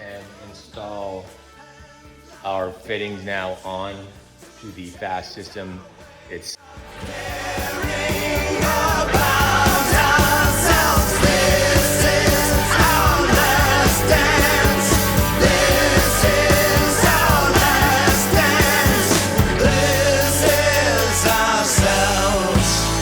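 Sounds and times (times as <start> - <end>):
rock music with male singer: 0.0 - 23.0.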